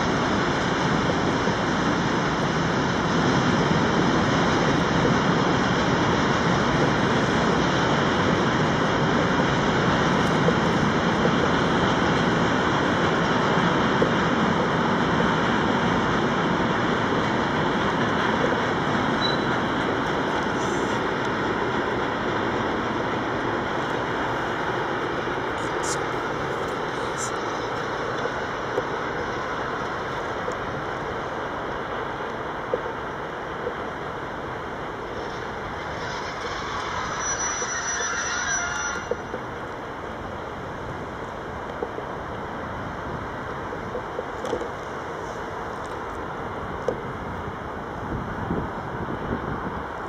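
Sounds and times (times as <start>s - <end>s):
freight train rolling past: 0.0s - 50.0s.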